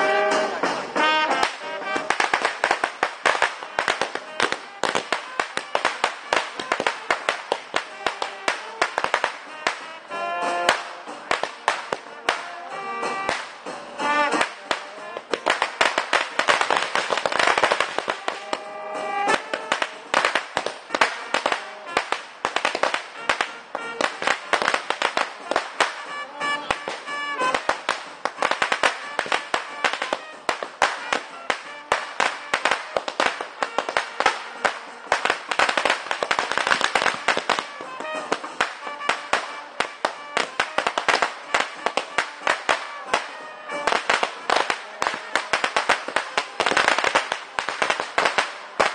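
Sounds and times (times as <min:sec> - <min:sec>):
firecrackers banging and crackling: 0:00.0 - 0:48.9
music playing: 0:00.0 - 0:48.9.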